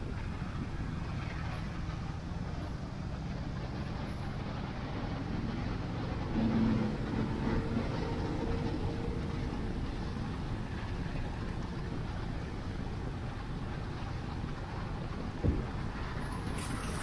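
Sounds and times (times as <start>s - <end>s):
vehicle low rumble: 0.0s - 17.0s.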